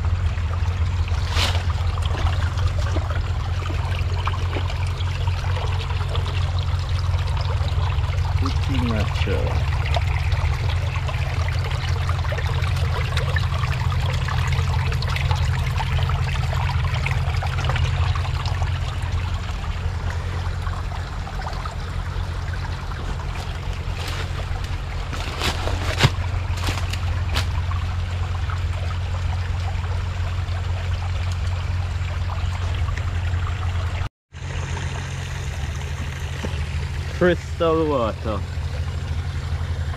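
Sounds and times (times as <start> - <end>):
low rumble: 0.0 - 39.9
stream trickling over rock: 0.0 - 39.9.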